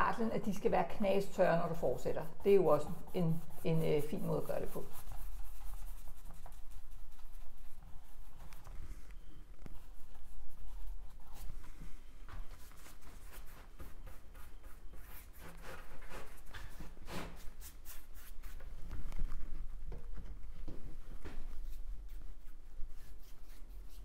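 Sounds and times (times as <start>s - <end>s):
paintbrush strokes on canvas: 0.1s - 19.8s, 20.4s - 24.0s.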